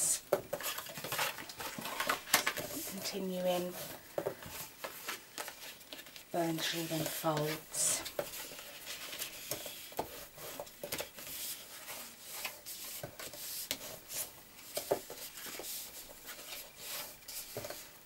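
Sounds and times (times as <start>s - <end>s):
paper rustling: 0.5s - 17.9s.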